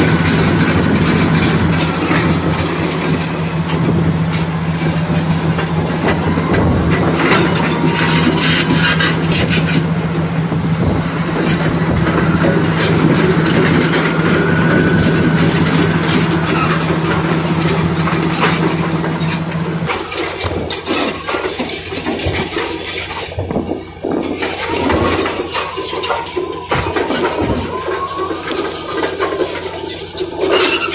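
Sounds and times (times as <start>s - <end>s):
blade scraping rubble: 0.0s - 30.9s
bulldozer diesel engine drone: 0.0s - 30.9s
steel tracks clanking: 0.0s - 30.9s.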